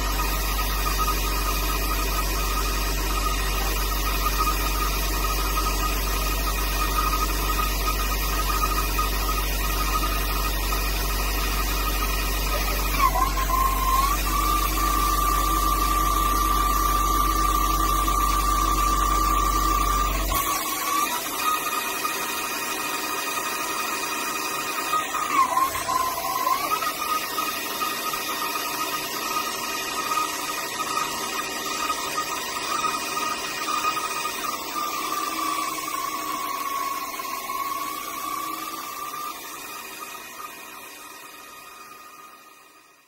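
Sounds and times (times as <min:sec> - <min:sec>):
cutting tool hiss: 0:00.0 - 0:43.0
lathe spindle whine: 0:00.0 - 0:43.0.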